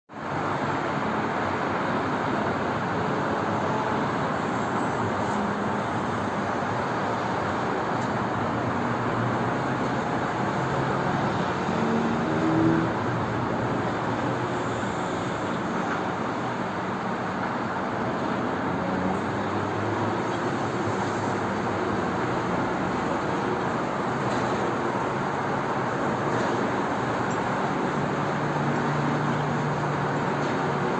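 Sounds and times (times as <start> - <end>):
trucks running: 0.2 - 30.9.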